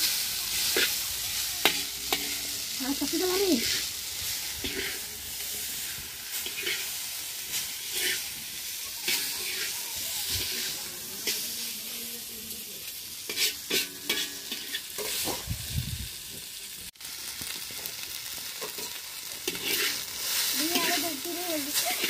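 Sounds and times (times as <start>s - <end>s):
noodles sizzling in a wok: 0.0s - 22.0s
metal spatula scraping a pan: 0.5s - 15.4s, 18.6s - 22.0s.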